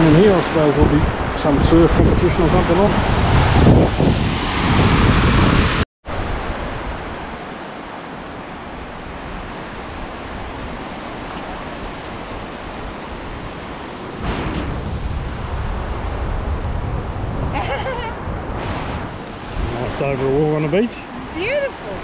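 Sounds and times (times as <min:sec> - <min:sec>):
small waves washing on beach: 0:00.0 - 0:22.0
wind rumbling on microphone: 0:00.0 - 0:22.0.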